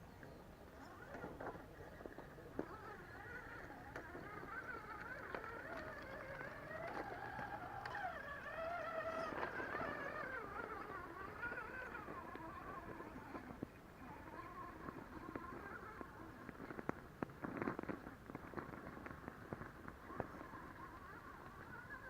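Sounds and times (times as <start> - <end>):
electric motor whining: 0.7 - 22.0
small clicks and knocks: 0.9 - 21.8.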